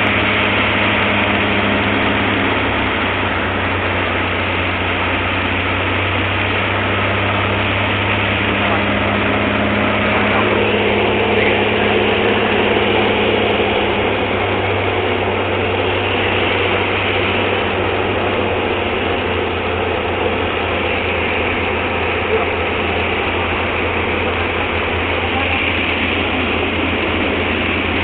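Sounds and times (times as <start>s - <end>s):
light aircraft engine drone: 0.0s - 28.0s.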